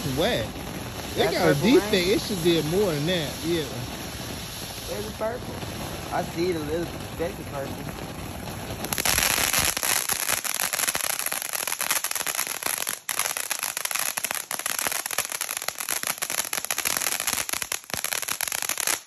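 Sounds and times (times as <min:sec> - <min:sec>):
firework fountain crackling: 0:00.0 - 0:19.0
hissing sparks: 0:00.0 - 0:19.0.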